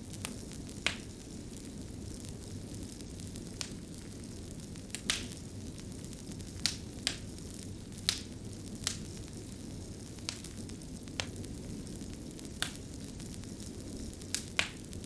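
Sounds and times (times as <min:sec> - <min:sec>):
burning wood popping and crackling: 0:00.0 - 0:15.0
flames rumbling: 0:00.0 - 0:15.0.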